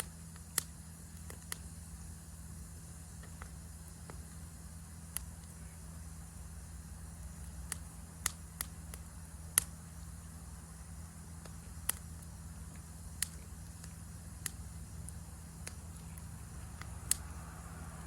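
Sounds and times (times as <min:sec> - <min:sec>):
campfire crackling: 0:00.0 - 0:18.0
steady low rumble: 0:00.0 - 0:18.0.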